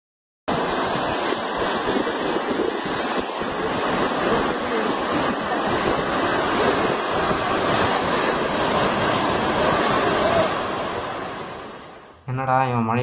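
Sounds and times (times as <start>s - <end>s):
heavy rain: 0.5s - 12.1s.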